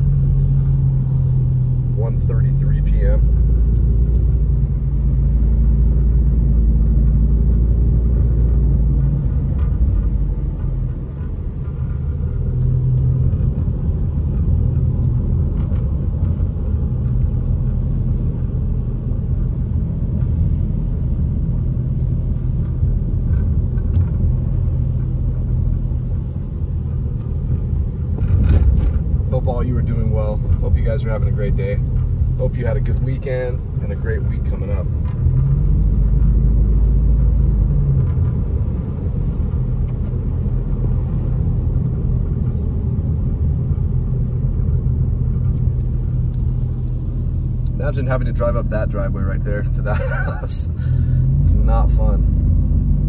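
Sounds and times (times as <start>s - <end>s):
car driving on a wet road: 0.0s - 53.0s.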